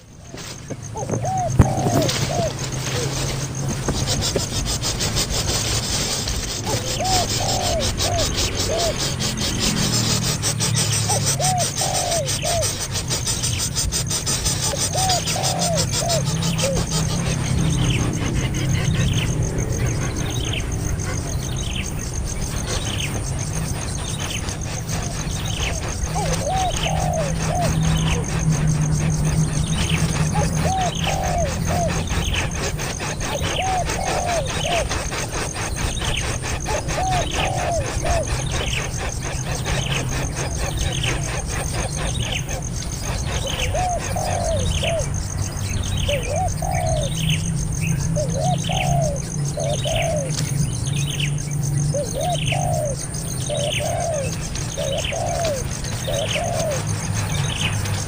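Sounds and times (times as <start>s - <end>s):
young bird hooting: 0.0s - 45.3s, 45.9s - 50.4s, 51.1s - 58.0s
rapid rasping rub: 0.0s - 51.2s, 52.5s - 58.0s
steady low hum: 0.0s - 58.0s.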